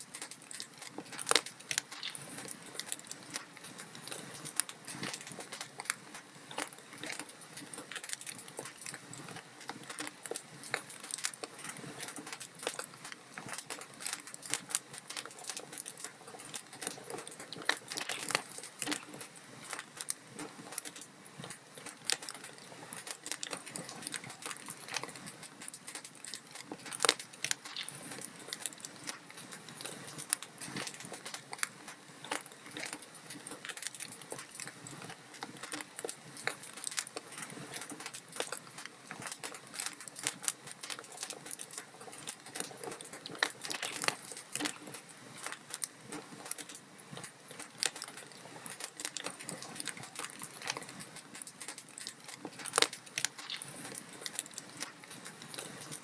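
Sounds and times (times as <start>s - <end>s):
fire popping: 0.0s - 56.0s
log fire crackling: 0.0s - 56.0s.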